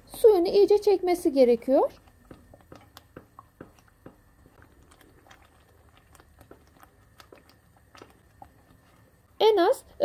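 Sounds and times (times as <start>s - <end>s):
spoon stirring thick mixture: 0.0s - 10.0s.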